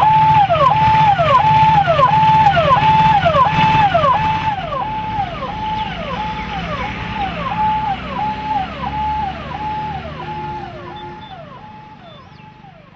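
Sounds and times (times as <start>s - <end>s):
siren-like electronic tone: 0.0s - 12.8s
low vehicle rumble: 0.0s - 12.9s.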